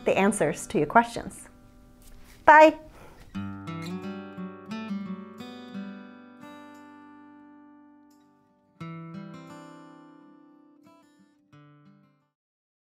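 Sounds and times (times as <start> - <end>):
acoustic guitar plucked notes and chords: 0.0 - 12.3.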